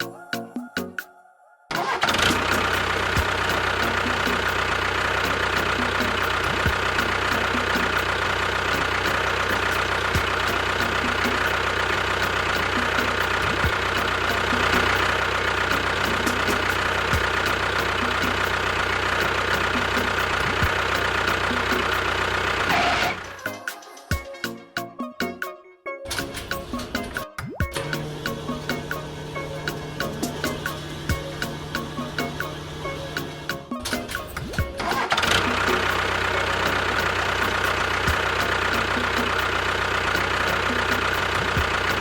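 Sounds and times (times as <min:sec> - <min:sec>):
tractor engine idling: 0:01.8 - 0:23.4, 0:27.8 - 0:42.0.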